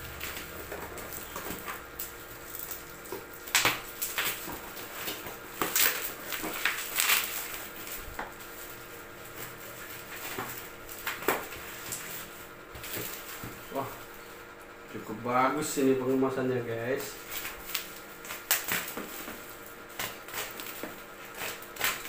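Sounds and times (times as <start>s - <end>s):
plastic wrapping rustling and crinkling: 0.0s - 14.4s, 17.1s - 22.0s.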